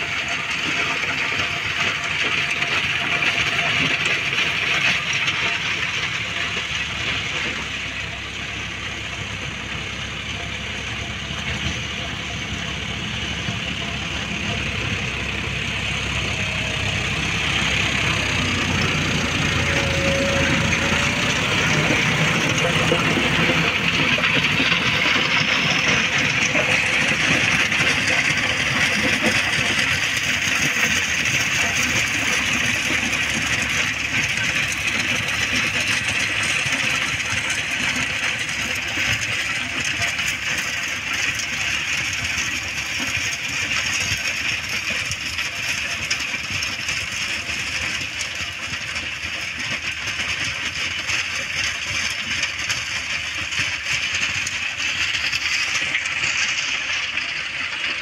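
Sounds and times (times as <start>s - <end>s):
rotavator churning soil: 0.0s - 58.0s
tractor diesel engine under load: 0.0s - 58.0s.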